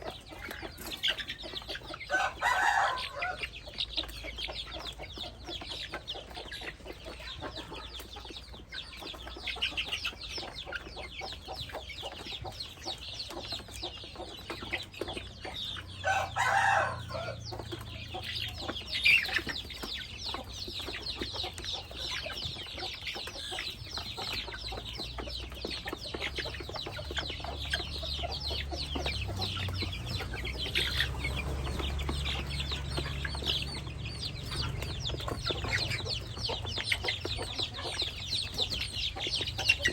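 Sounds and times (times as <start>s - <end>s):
young chickens cheeping: 0.0s - 39.9s.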